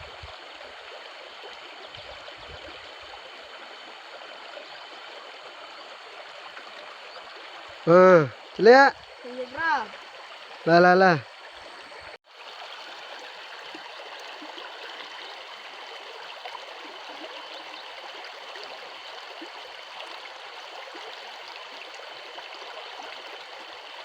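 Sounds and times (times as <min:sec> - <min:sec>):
flowing water: 0:00.0 - 0:24.0.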